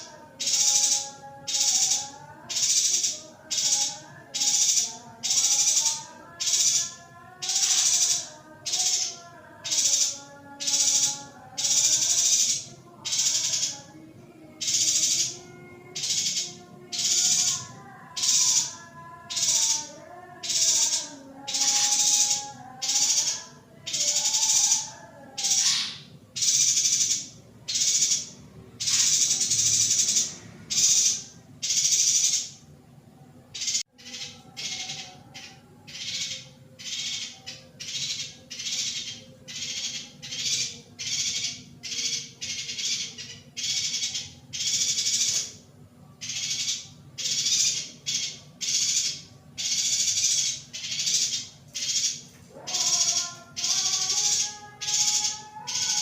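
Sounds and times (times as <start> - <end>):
bird chattering calls: 0.0 - 13.9, 14.5 - 32.6, 33.6 - 56.0.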